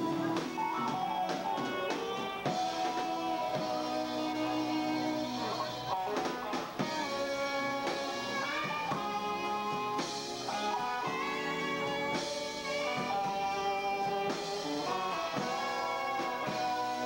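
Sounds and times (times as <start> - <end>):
electric guitar bending notes: 0.0 - 17.0.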